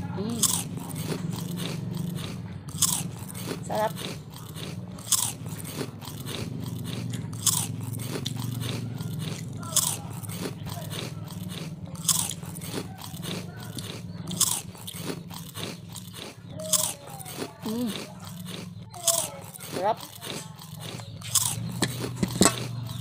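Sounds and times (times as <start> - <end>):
person chewing food: 0.0 - 23.0
steady low hum: 0.0 - 23.0.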